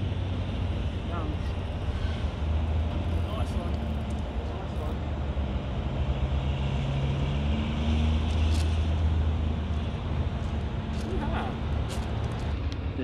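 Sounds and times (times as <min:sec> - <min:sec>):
distant truck engines droning: 0:00.0 - 0:13.0.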